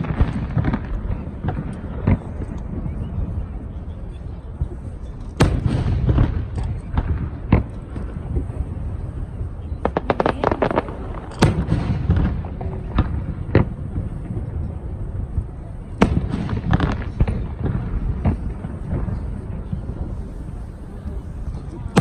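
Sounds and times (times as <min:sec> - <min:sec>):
crackling pops of fireworks: 0:00.0 - 0:22.0
fireworks bangs: 0:00.0 - 0:22.0
low background noise: 0:00.0 - 0:22.0.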